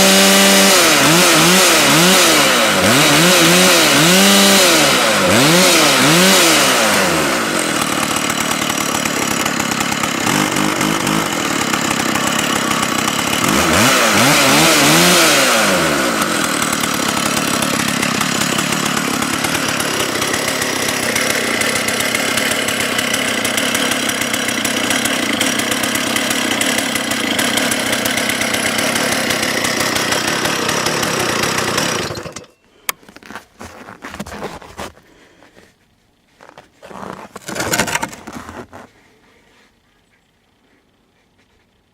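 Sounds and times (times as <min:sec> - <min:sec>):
chainsaw revving: 0:00.0 - 0:35.6, 0:36.5 - 0:39.2.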